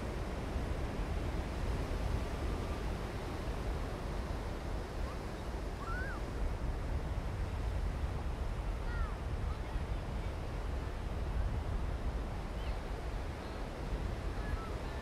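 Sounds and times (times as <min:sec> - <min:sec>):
ocean surf: 0:00.0 - 0:15.0
wind rumble on microphone: 0:00.0 - 0:15.0.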